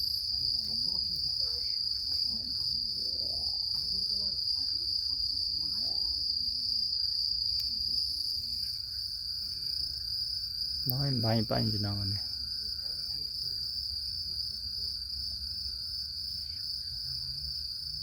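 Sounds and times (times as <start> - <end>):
crickets chirring: 0.0 - 18.0
faint distant voices: 0.0 - 18.0.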